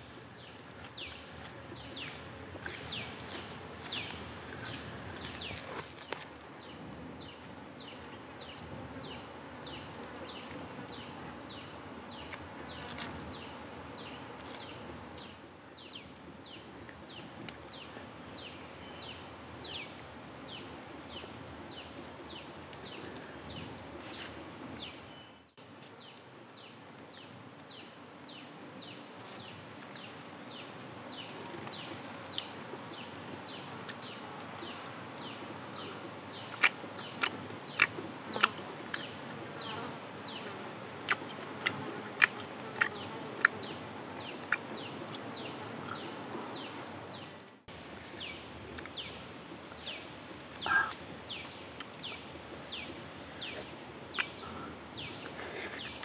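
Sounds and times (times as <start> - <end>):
low forest background: 0.0 - 56.0.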